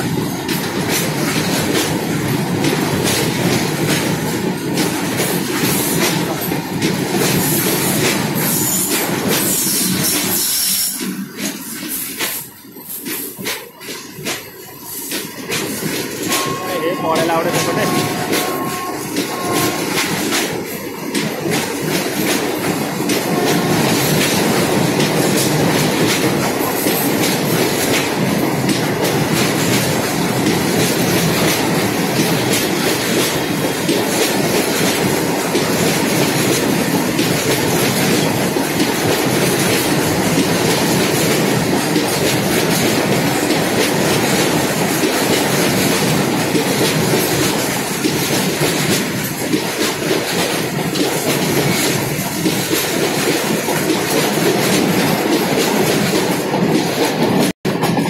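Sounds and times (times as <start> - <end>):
freight train rumbling past: 0.0 - 58.0
wheels clacking over rail joints: 0.0 - 58.0.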